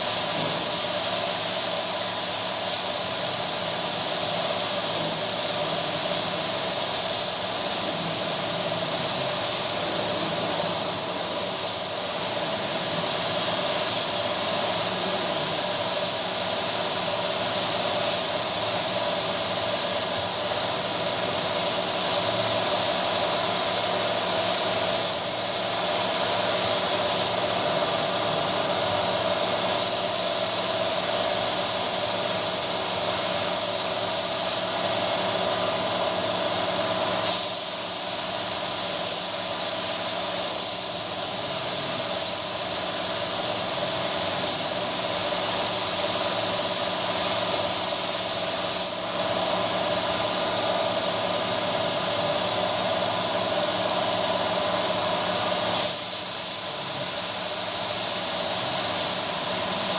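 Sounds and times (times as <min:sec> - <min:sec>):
steady machine hum: 0:00.0 - 0:48.0
spray gun hissing: 0:00.0 - 0:59.9.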